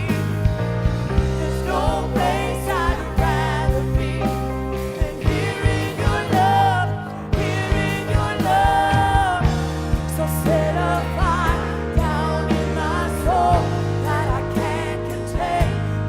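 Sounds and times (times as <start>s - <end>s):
drum beats: 0.0s - 16.0s
worship band playing: 0.0s - 16.0s.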